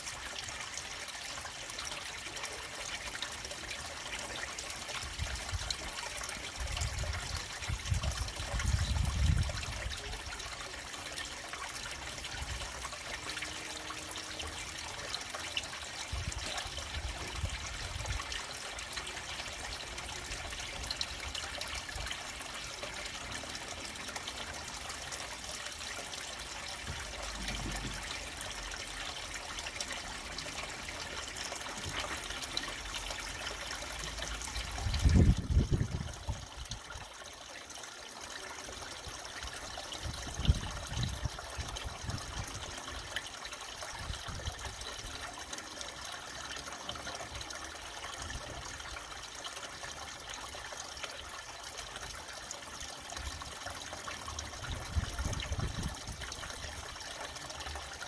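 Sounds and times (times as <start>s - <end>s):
water trickling into a pond: 0.0s - 58.0s.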